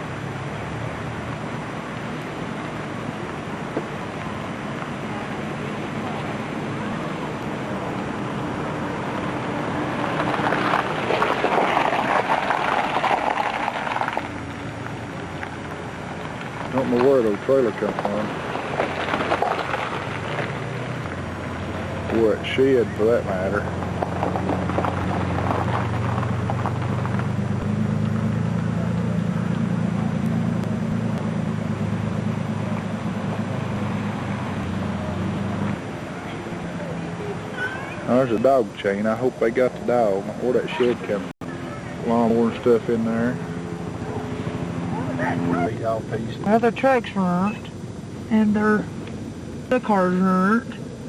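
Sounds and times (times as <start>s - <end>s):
vehicle on wet road: 0.0s - 51.0s.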